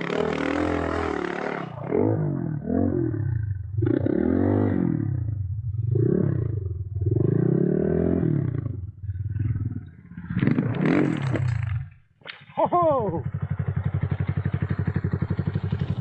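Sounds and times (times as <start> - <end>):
motorcycle engine revving: 0.0 - 12.0, 12.7 - 16.0.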